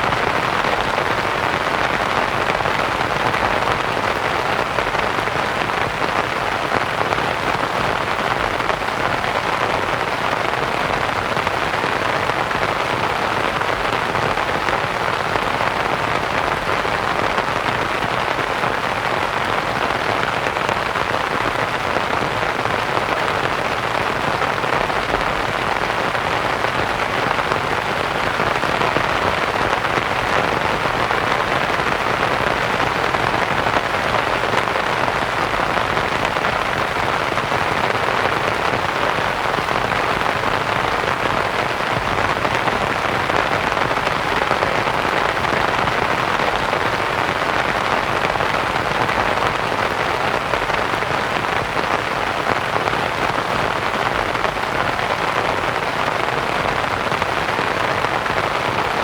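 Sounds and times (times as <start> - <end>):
rain falling on a tent: 0.0 - 59.0.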